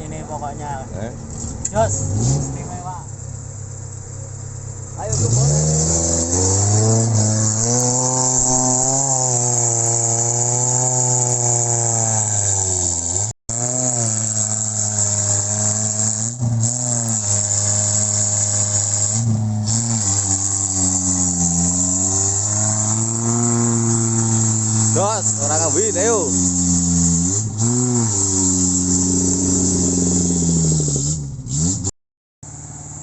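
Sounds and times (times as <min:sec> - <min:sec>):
off-road vehicle engine under load: 0:00.0 - 0:33.0.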